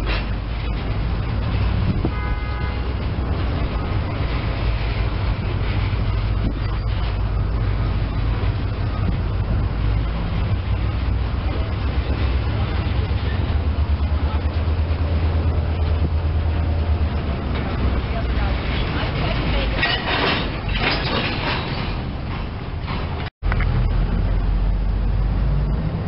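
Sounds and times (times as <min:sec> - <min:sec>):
diesel locomotive rumble: 0:00.0 - 0:26.0
freight cars rolling: 0:00.0 - 0:26.0.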